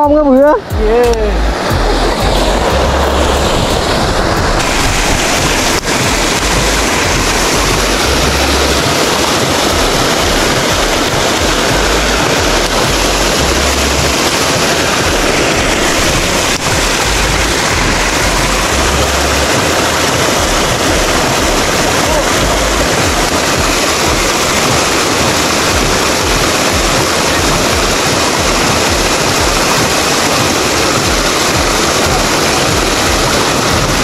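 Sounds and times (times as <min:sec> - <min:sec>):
loud steady rushing noise: 0:00.0 - 0:34.0.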